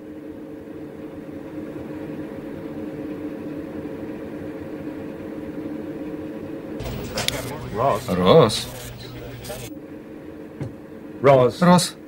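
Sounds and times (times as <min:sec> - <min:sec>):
low mechanical hum of machinery: 0:00.0 - 0:12.0.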